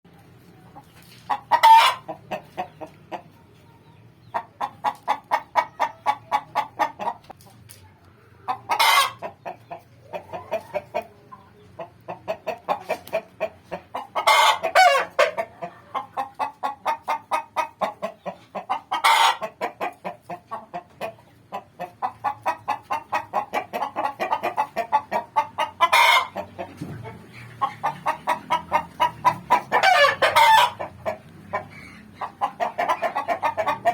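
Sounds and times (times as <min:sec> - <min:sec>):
hen cackling: 0:01.3 - 0:03.3, 0:04.3 - 0:07.2, 0:08.4 - 0:33.9.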